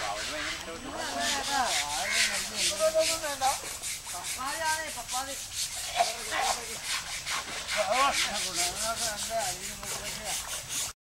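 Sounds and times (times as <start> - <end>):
short sliding pitched calls: 0.0 - 10.9
rhythmic rasping: 0.0 - 11.0.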